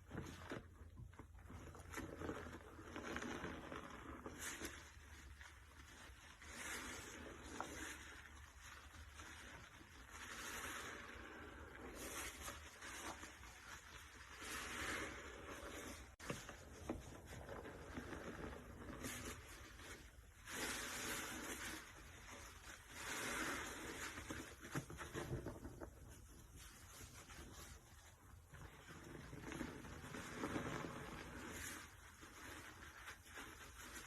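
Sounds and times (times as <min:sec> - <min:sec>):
soapy sponge squelching: 0:00.0 - 0:34.0.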